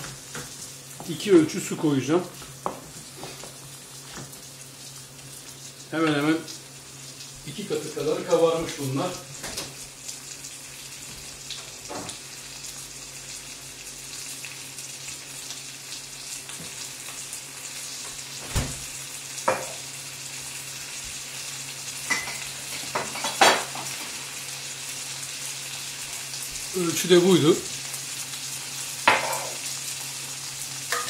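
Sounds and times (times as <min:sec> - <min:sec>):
grains sizzling in a frying pan: 0:00.0 - 0:31.0.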